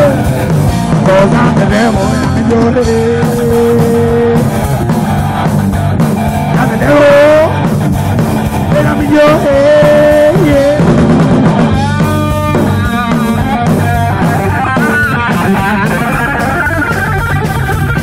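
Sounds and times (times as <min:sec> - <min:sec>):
heavy metal band playing: 0:00.0 - 0:18.0.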